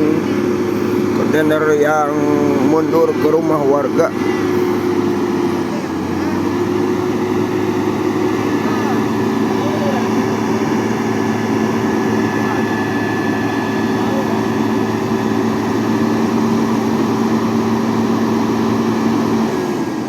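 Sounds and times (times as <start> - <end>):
heavy truck engine running: 0.0 - 20.0.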